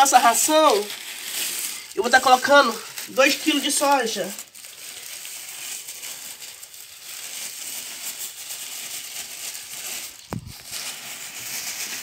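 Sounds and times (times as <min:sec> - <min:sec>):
grain pouring: 0:00.0 - 0:12.0
plastic bag crinkling: 0:00.0 - 0:12.0.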